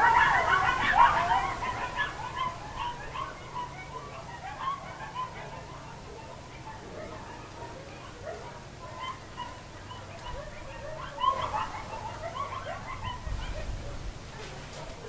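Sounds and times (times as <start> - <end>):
coyotes yipping and howling: 0.0 - 15.0.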